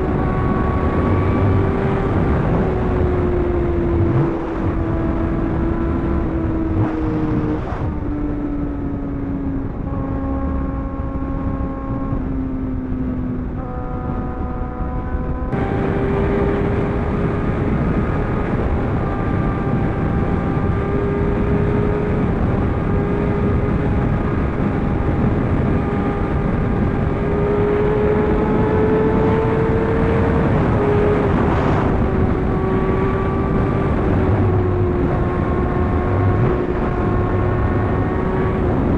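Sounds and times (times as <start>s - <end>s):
motorcycle engine: 0.0s - 38.9s
wind and road noise: 0.0s - 38.9s.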